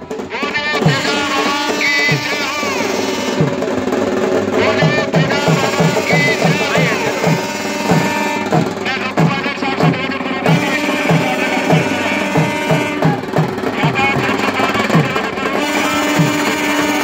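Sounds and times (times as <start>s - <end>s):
music with steady drum beat: 0.0s - 17.0s.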